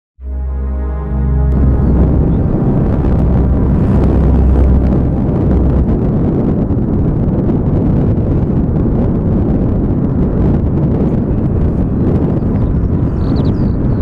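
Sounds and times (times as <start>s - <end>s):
wind buffeting microphone: 1.5s - 14.0s.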